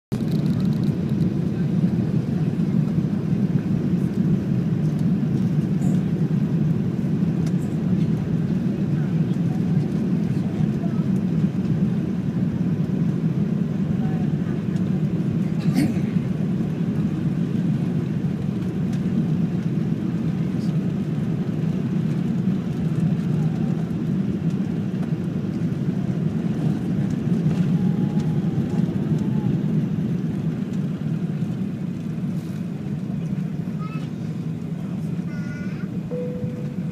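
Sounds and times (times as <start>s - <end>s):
aircraft cabin engine rumble: 0.1s - 36.9s.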